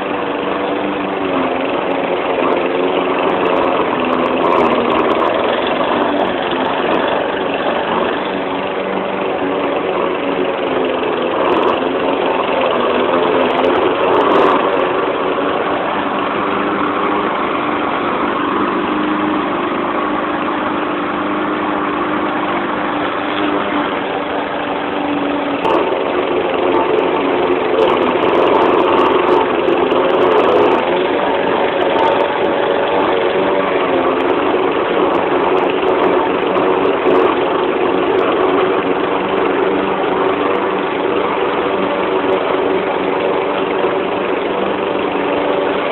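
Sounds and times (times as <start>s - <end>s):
push mower engine running: 0.0s - 45.9s.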